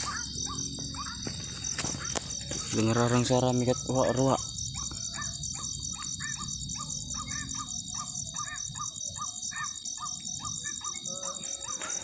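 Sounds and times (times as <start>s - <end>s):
distant waterhen calls: 0.0s - 12.0s
insects trilling: 0.0s - 12.0s.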